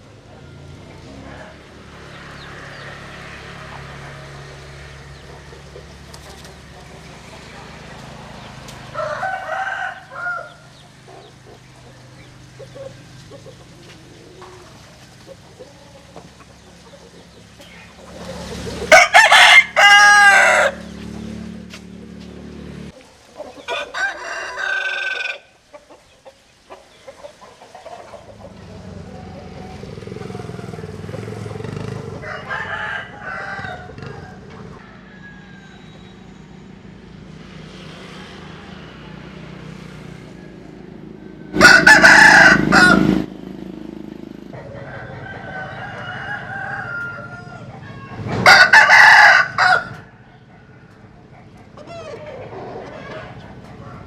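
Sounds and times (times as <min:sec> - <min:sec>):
roosters crowing: 0:00.0 - 0:54.0.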